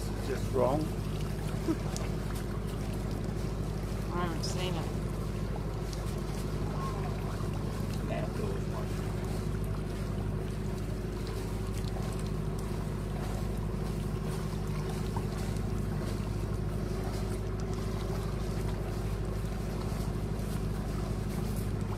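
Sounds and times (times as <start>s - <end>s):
boat engine humming: 0.0s - 21.9s.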